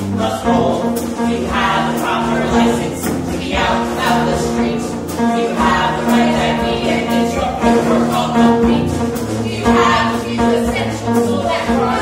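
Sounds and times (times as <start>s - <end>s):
pit orchestra playing: 0.0s - 12.0s.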